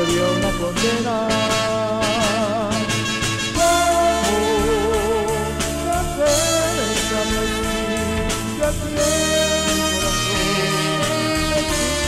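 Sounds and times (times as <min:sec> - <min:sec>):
instrumental ballad music: 0:00.0 - 0:12.0.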